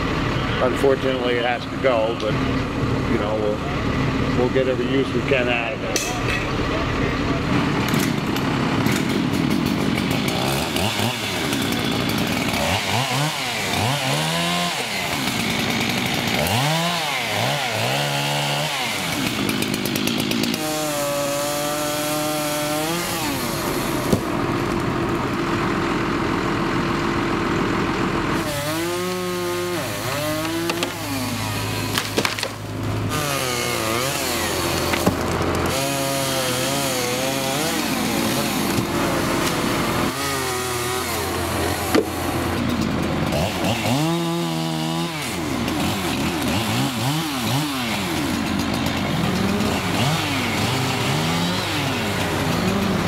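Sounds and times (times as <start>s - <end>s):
chainsaw revving and cutting wood: 0.0s - 53.0s.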